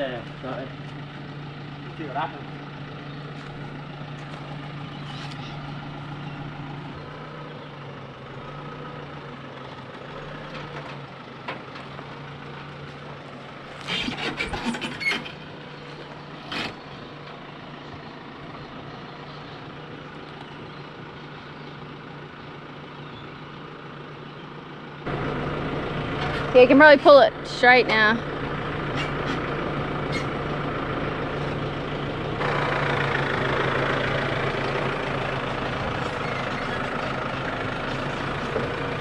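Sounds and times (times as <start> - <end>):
vehicle engine running at low revs: 0.0 - 39.0.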